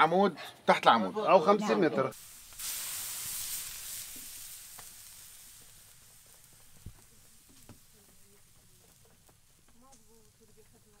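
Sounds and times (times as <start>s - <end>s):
water sizzling on hot griddle: 1.9s - 11.0s.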